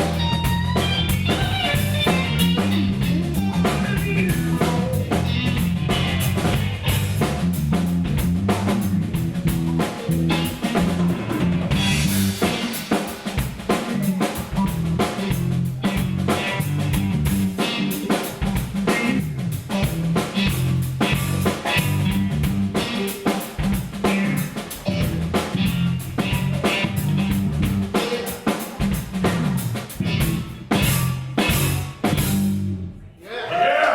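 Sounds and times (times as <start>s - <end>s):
stepping bass line: 0.0s - 12.6s, 13.6s - 23.0s, 23.6s - 28.0s, 28.9s - 32.8s
drum kit: 0.0s - 32.9s.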